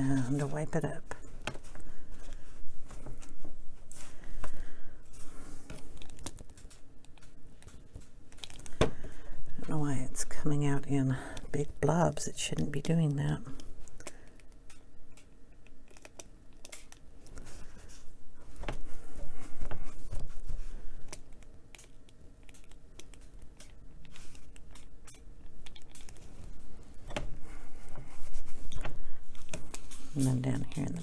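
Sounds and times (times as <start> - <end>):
clicks and rustles: 0.0 - 10.4, 12.6 - 31.0.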